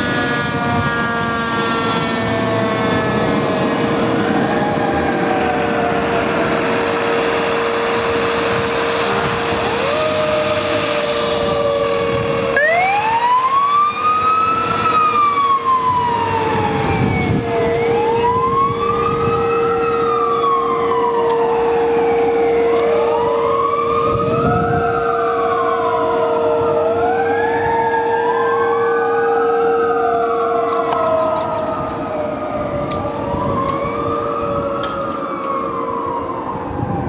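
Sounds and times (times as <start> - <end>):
fire truck sirens wailing: 0.0 - 37.0.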